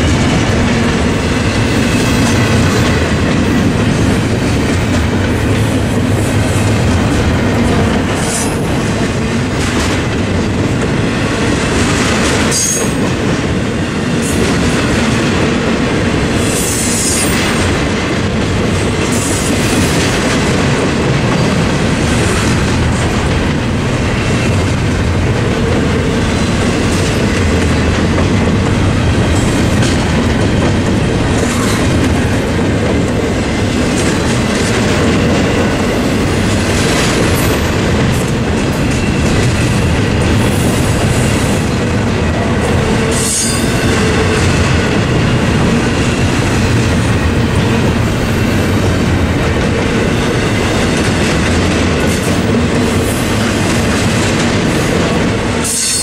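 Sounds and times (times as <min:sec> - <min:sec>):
clickety-clack at rail joints: 0:00.0 - 0:56.0
freight train wheels rumbling: 0:00.0 - 0:56.0.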